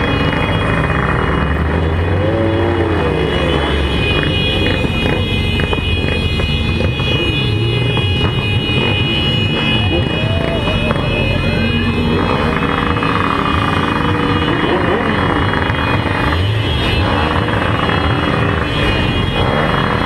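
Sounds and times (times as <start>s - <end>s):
loud road noise: 0.0s - 20.0s
motorcycle engines running: 0.0s - 20.0s.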